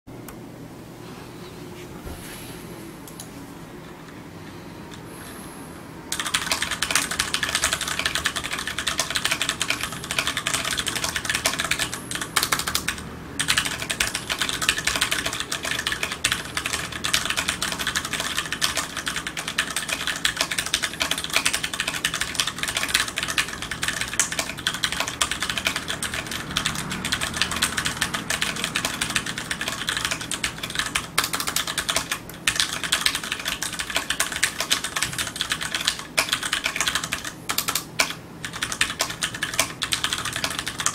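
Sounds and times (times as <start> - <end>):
fast typing on mechanical keyboard: 6.1 - 40.9.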